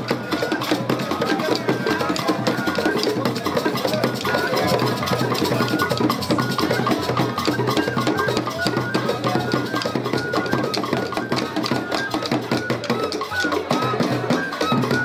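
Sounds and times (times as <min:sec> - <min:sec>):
wooden hand drums playing: 0:00.0 - 0:15.0.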